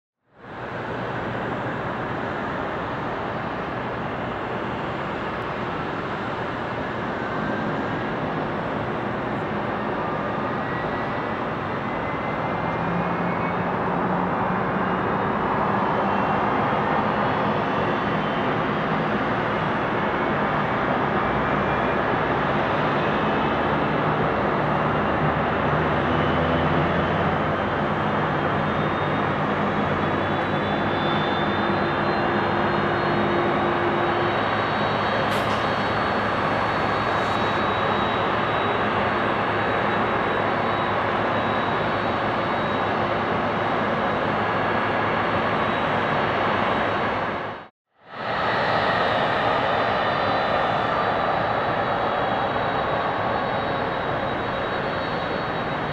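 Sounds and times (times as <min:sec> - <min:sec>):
jet engines roaring with whine: 0:00.3 - 0:55.9.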